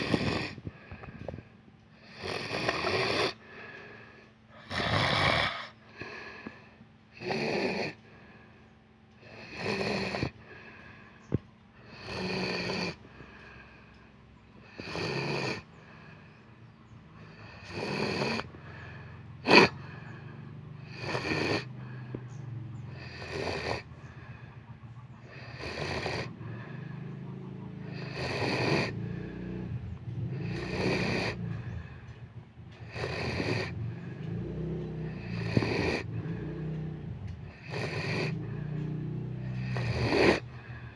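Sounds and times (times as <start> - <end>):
person snoring: 0.0 - 8.1, 9.2 - 10.9, 11.8 - 13.9, 14.6 - 16.3, 17.2 - 22.2, 22.9 - 24.3, 25.2 - 27.1, 27.8 - 31.9, 32.8 - 40.9.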